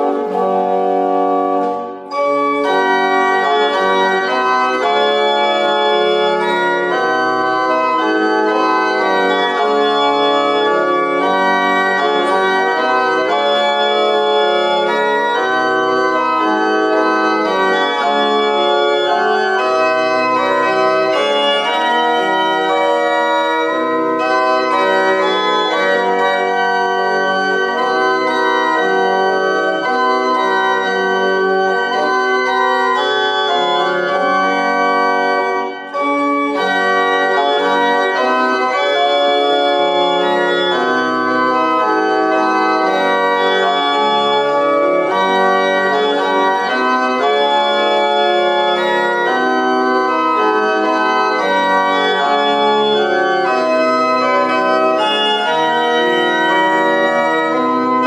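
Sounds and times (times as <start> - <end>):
organ playing hymn chords: 0.0 - 58.0.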